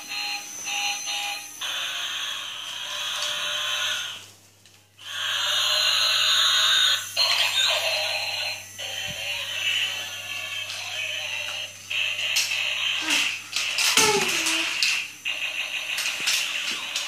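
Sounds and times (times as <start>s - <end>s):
tinny electronic toy music: 0.0s - 4.3s, 5.0s - 17.0s.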